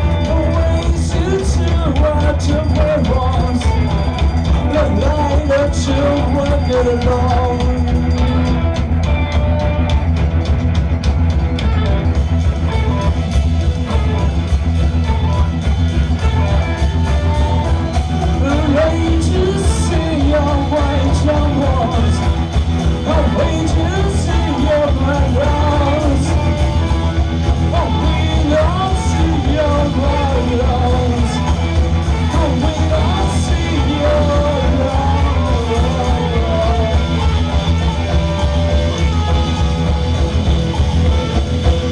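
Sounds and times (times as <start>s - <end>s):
man singing and yelling: 0.0s - 9.7s, 15.0s - 41.9s
rock band playing: 0.0s - 41.9s.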